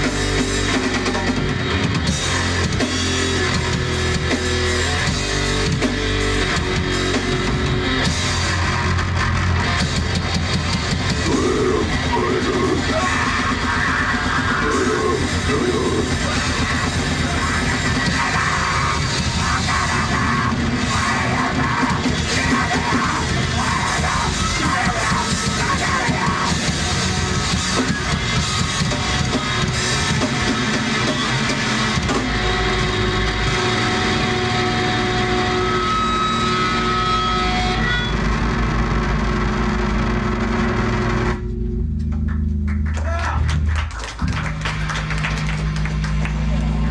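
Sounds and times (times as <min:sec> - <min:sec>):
distorted guitars: 0:00.0 - 0:46.9
drum kit: 0:00.0 - 0:46.9
heavy metal band playing: 0:00.0 - 0:46.9.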